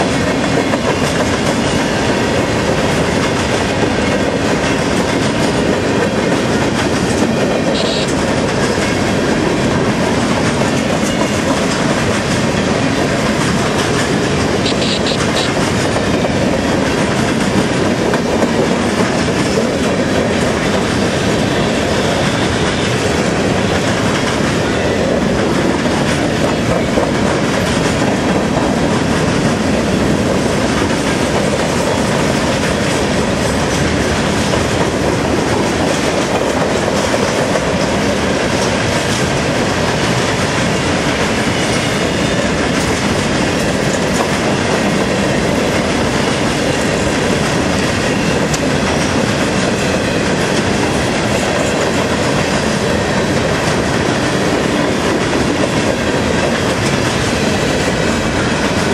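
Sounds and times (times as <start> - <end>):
steel wheels on rail: 0.0 - 58.9.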